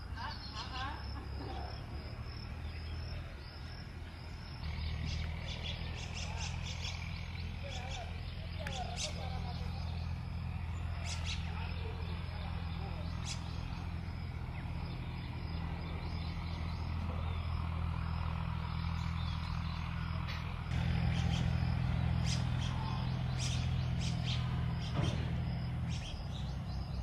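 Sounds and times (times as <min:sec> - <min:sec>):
small birds chirping: 0:00.0 - 0:27.0
steady low rumble: 0:01.7 - 0:27.0.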